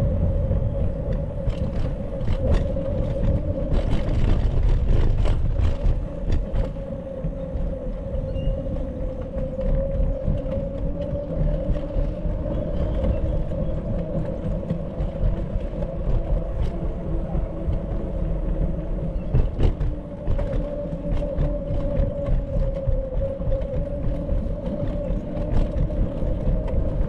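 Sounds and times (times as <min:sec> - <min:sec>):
wind and road rumble: 0:00.0 - 0:27.0.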